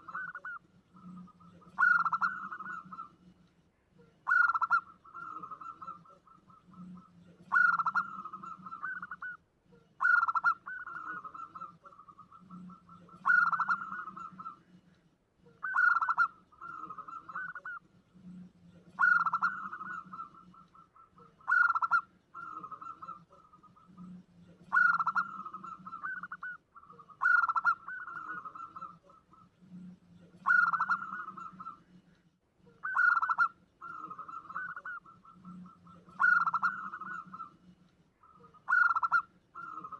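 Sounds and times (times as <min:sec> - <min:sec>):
dove cooing trill: 0:00.0 - 0:03.3, 0:04.0 - 0:14.8, 0:15.4 - 0:32.0, 0:32.7 - 0:39.9.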